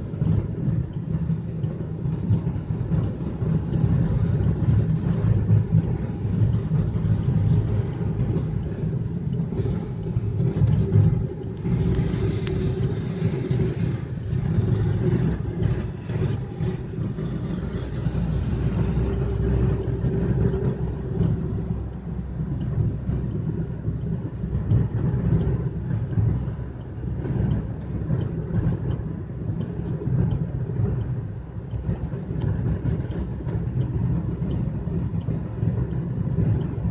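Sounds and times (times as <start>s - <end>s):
car engine and tyre rumble: 0.0s - 36.9s
steady hum: 0.0s - 36.9s.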